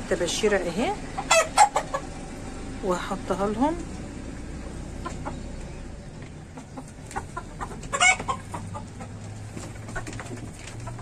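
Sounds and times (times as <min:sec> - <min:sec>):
hens clucking: 0:00.2 - 0:11.0.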